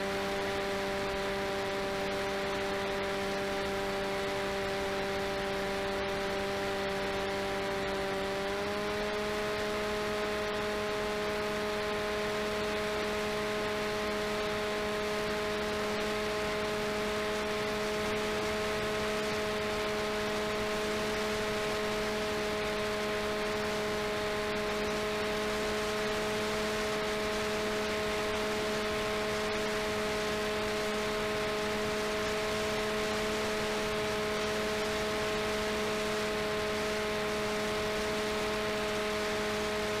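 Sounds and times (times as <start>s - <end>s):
electric motor whine: 0.0s - 40.0s.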